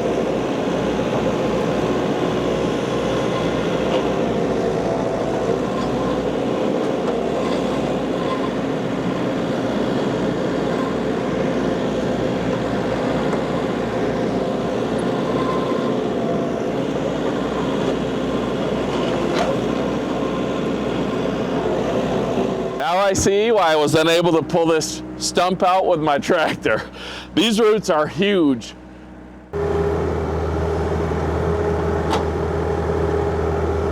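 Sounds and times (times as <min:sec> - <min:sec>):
excavator diesel engine running: 0:00.0 - 0:33.9
hydraulics working: 0:00.0 - 0:33.9.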